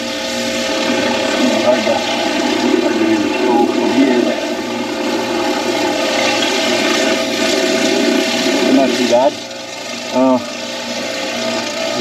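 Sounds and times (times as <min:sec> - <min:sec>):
pressure washer machine hum: 0:00.0 - 0:12.0.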